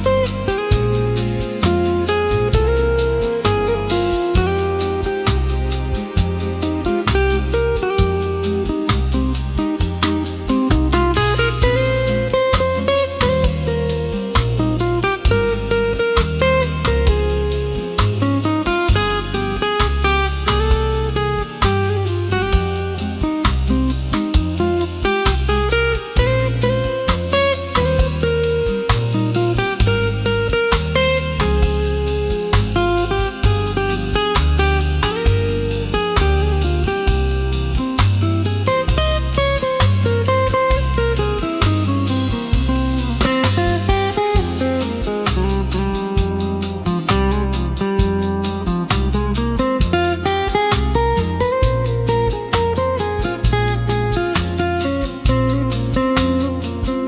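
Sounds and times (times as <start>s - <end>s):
drum kit keeping time: 0.0s - 57.0s
smooth jazz guitar and bass: 0.0s - 57.0s.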